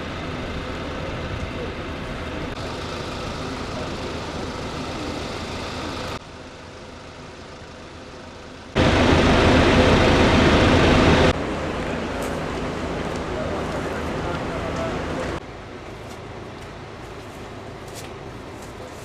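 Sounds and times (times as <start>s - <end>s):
rushing outdoor background noise: 0.0s - 19.0s.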